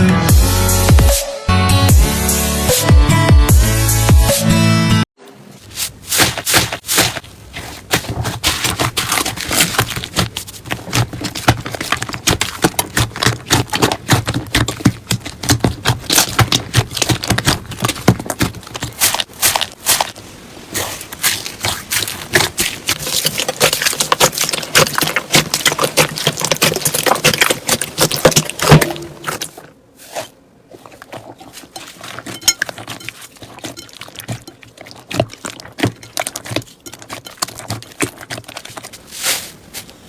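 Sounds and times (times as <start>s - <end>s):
slime squished by hand: 5.6s - 40.0s.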